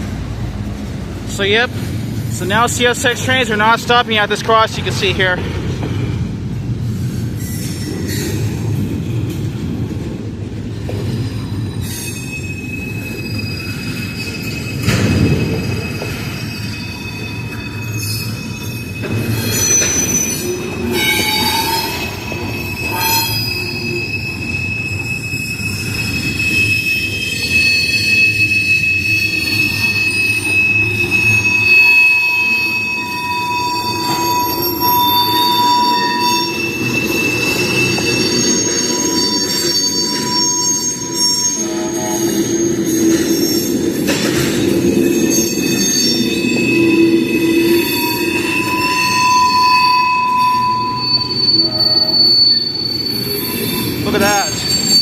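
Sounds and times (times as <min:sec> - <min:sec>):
rumble of wheels on rail: 0:00.0 - 0:55.0
train wheels squealing: 0:01.2 - 0:06.2, 0:06.8 - 0:09.8, 0:10.7 - 0:55.0.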